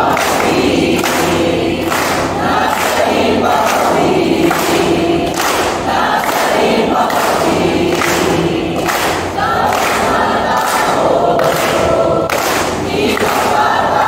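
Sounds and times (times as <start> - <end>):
group singing in unison: 0.0 - 14.0
hand claps: 0.0 - 14.0.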